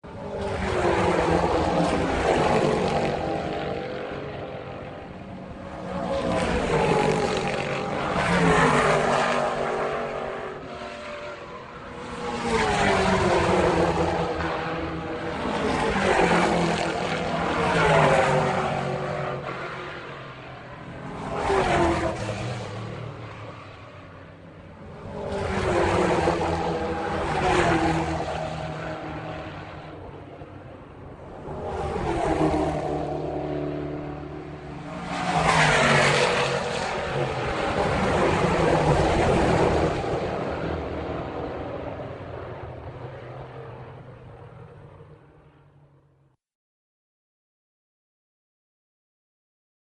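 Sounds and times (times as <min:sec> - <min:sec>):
race car engines passing by: 0:00.0 - 0:45.2.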